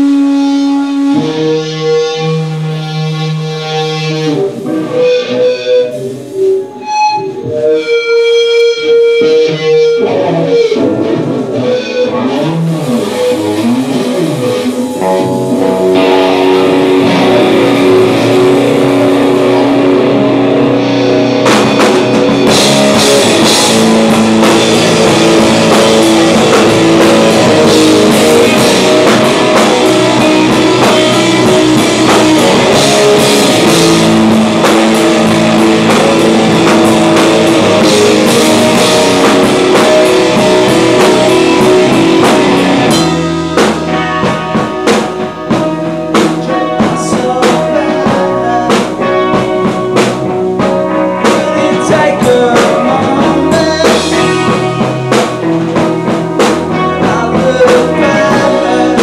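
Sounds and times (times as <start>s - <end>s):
electric guitars ringing: 0.0s - 59.0s
live rock band playing: 0.0s - 59.0s
drums and cymbals: 11.2s - 59.0s.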